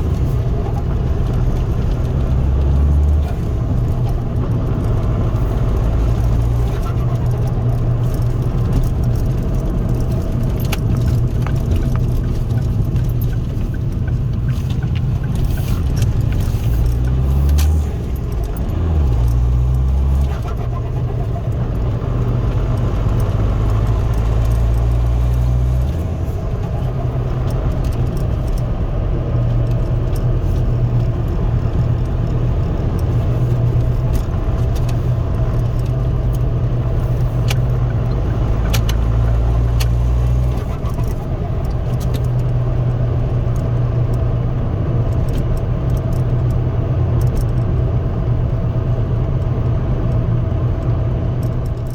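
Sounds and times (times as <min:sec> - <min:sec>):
diesel car engine running: 0:00.0 - 0:51.9
light rattles and clicks: 0:00.0 - 0:51.9
road noise: 0:00.0 - 0:51.9.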